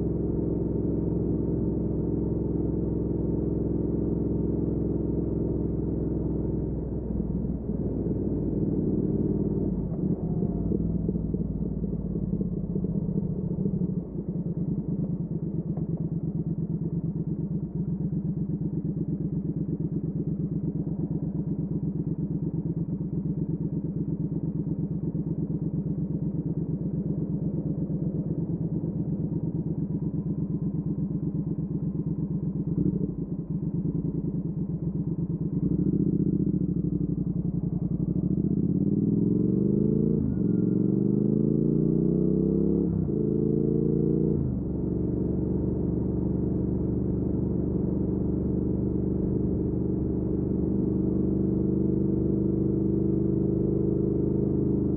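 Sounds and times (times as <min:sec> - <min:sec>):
motorcycle engine cruising: 0:06.7 - 0:54.9.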